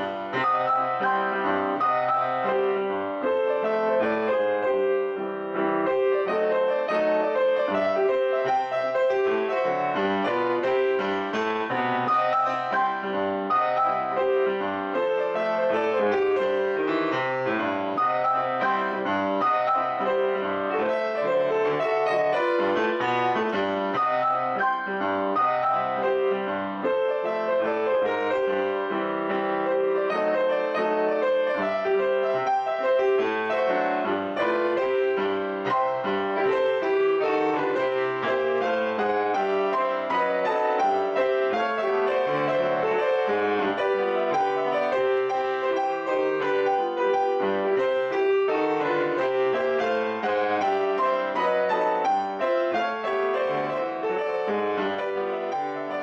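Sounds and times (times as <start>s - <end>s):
ragtime piano: 0.0s - 56.0s.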